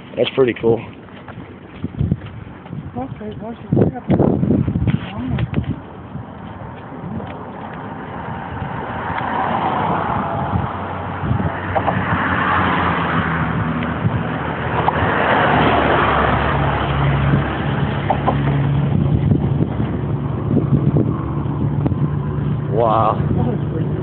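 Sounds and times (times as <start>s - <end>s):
cars passing by: 0.0s - 24.0s
low engine hum: 0.0s - 24.0s.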